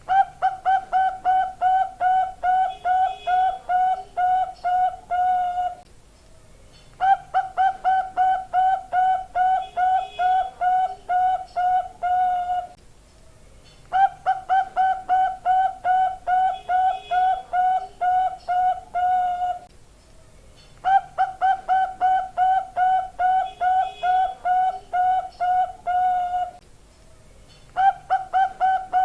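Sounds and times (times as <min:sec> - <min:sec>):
dove cooing: 0:00.0 - 0:05.8, 0:07.0 - 0:12.8, 0:13.9 - 0:19.7, 0:20.8 - 0:26.6, 0:27.8 - 0:29.0.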